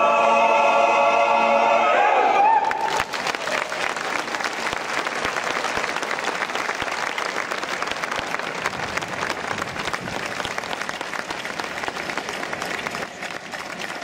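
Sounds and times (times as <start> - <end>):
crowd applauding: 2.5 - 14.0.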